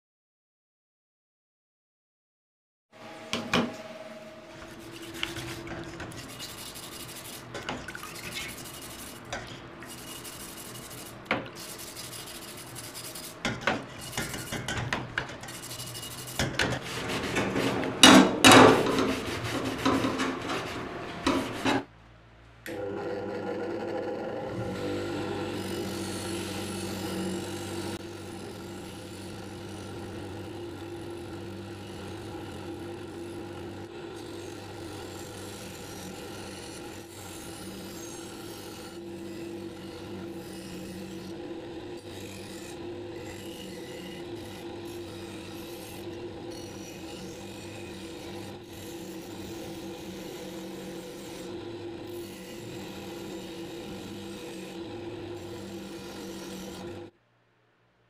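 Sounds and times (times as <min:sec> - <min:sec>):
bench grinder motor hum: 0:03.0 - 0:21.9, 0:22.7 - 0:57.2
wire wheel scrubbing rust off blade: 0:04.4 - 0:21.9, 0:24.6 - 0:57.1.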